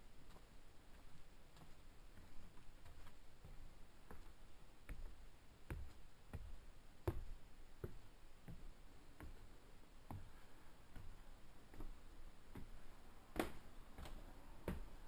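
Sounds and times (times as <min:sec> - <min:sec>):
footsteps on wooden stairs: 0:00.3 - 0:15.0.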